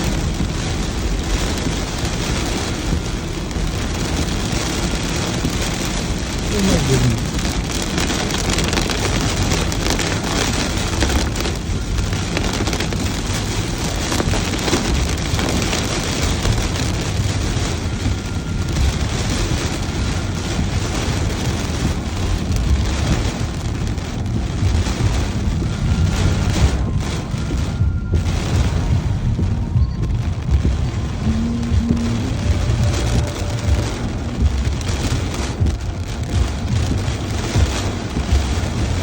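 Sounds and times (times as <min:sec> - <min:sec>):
car driving rumble: 0:00.0 - 0:39.0
steady rain: 0:00.0 - 0:39.0.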